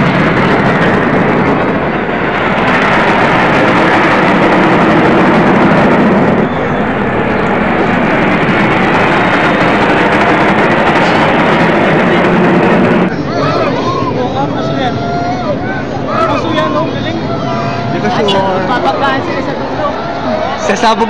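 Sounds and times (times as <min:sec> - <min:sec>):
jets flying over: 0:00.0 - 0:21.0.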